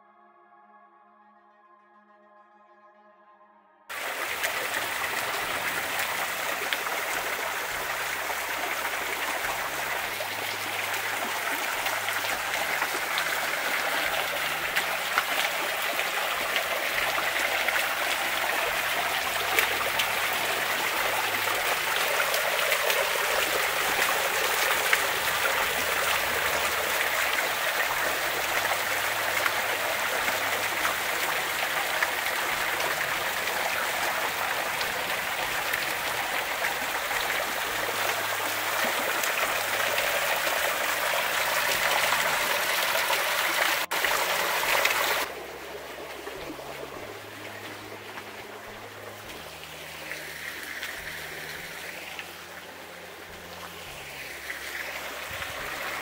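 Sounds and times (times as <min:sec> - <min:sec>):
small waterfall splashing into pool: 0:03.9 - 0:56.0.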